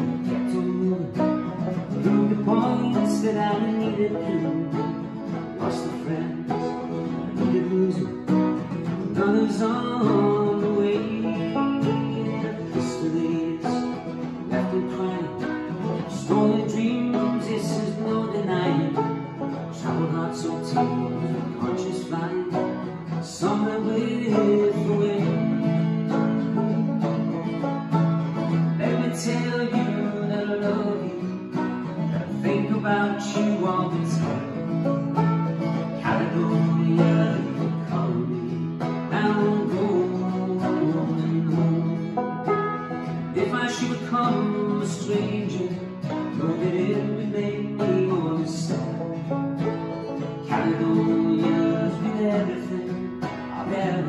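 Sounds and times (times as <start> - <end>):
acoustic guitar strumming: 0.0 - 54.0
banjo picking: 0.0 - 54.0.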